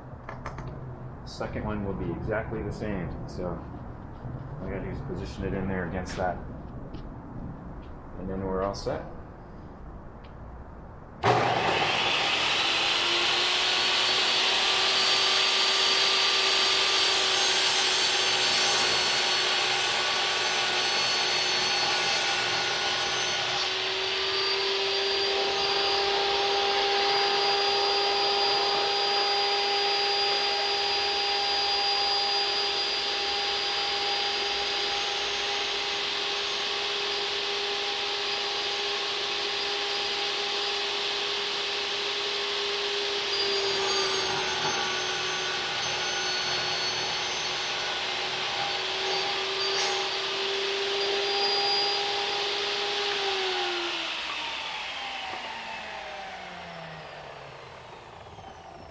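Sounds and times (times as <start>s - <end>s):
table saw cutting wood: 11.2s - 58.9s.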